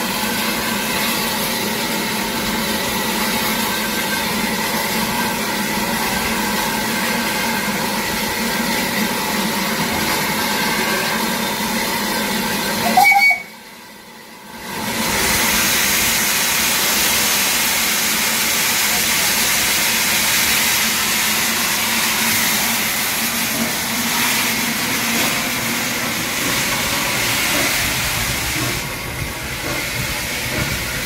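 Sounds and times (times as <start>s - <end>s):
steam locomotive hissing: 0.0s - 31.0s.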